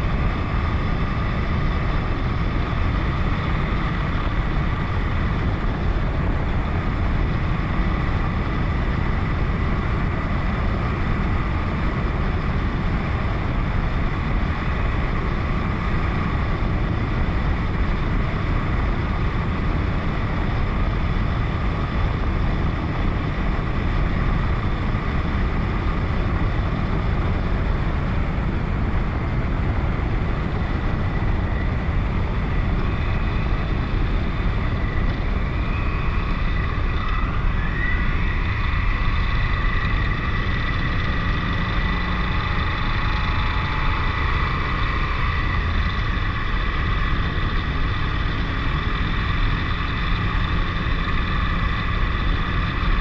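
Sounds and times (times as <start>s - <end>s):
motorcycle engine running: 0.0s - 53.0s
thick rushing noise: 0.0s - 53.0s.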